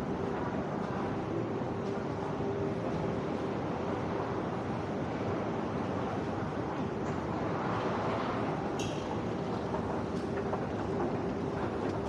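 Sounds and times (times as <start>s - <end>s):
railway station background rumble: 0.0s - 12.0s.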